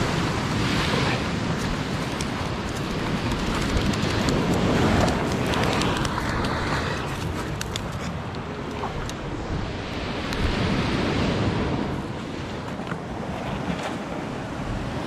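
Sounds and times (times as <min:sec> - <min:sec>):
surf washing on stony shore: 0:00.0 - 0:15.0
wind buffeting microphone: 0:00.0 - 0:15.0.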